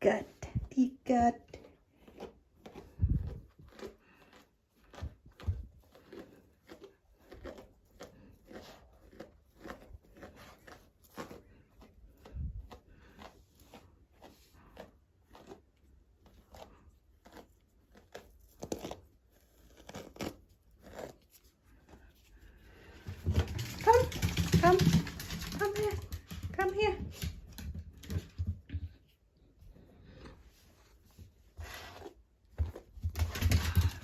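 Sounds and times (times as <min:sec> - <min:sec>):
brush scratching through dog fur: 0:01.5 - 0:27.5, 0:29.1 - 0:34.0.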